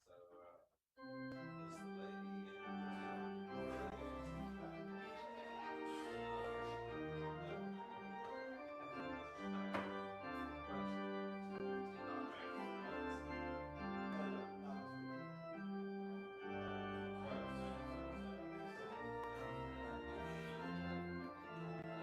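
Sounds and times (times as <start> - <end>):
church organ playing chords: 1.0 - 22.0.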